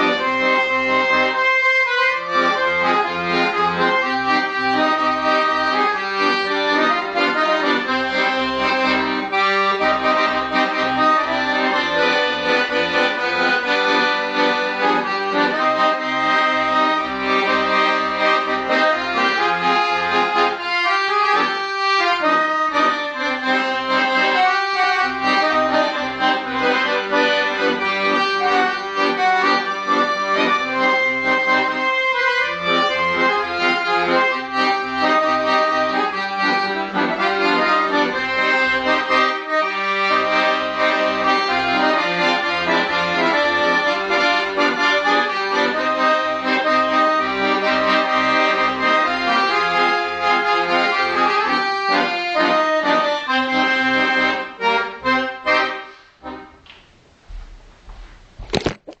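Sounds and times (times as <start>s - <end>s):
accordion folk tune: 0.0s - 56.8s.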